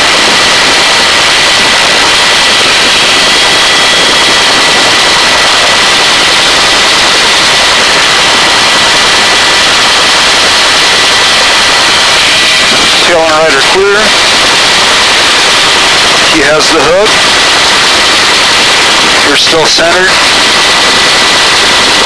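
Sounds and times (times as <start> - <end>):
helicopter hovering: 0.0 - 22.0.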